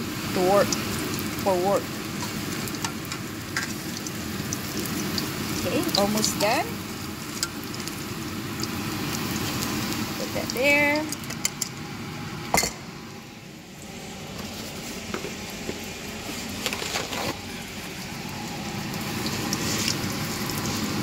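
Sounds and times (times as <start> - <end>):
frying in hot oil: 0.0 - 21.0.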